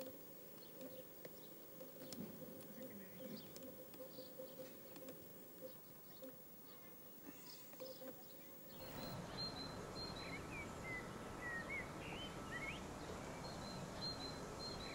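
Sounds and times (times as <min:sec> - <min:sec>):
small birds chirping: 0:00.0 - 0:14.9
steady background noise: 0:00.0 - 0:14.9.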